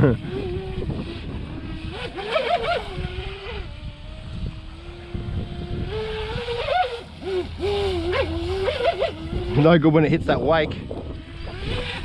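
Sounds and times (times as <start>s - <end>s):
rc boat motor whining: 0.0s - 12.0s.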